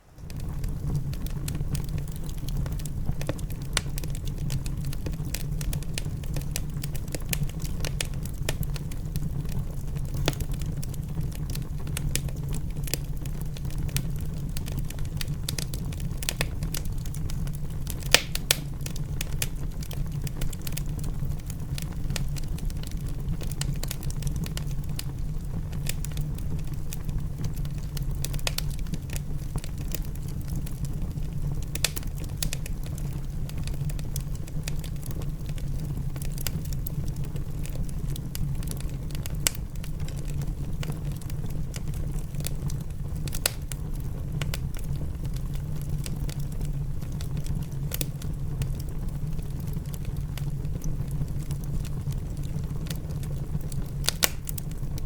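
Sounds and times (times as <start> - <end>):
fire low rumble: 0.0 - 55.0
wood fire crackling: 0.0 - 55.0.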